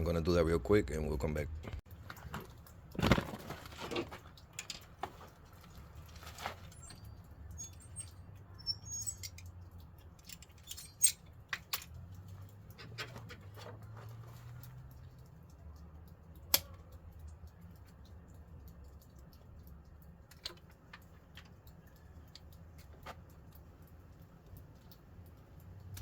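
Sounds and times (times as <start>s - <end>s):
small tools clicking and rattling: 1.9s - 26.0s.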